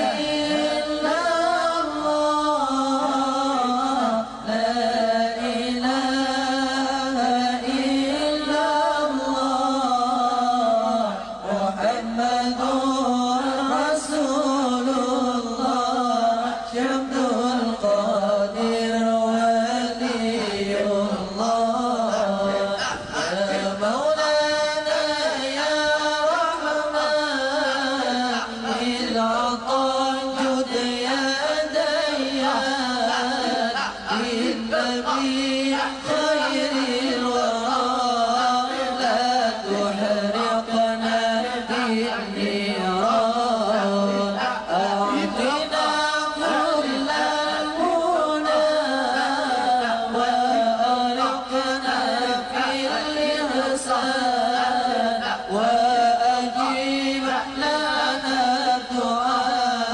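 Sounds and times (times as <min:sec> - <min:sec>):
person chanting devotional song: 0:00.0 - 0:59.9.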